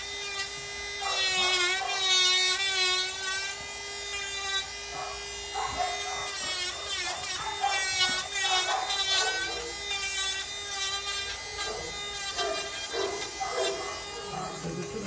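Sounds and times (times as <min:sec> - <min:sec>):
electric nail grinder humming: 0:00.0 - 0:15.0.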